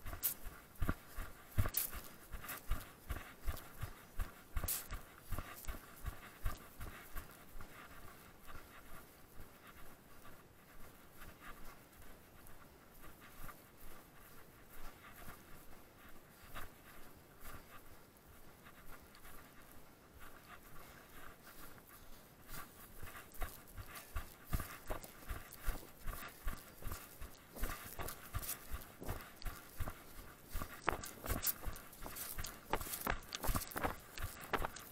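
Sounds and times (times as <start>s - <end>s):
running footsteps on dirt: 0.0s - 34.9s
hard panting breath: 0.1s - 34.9s.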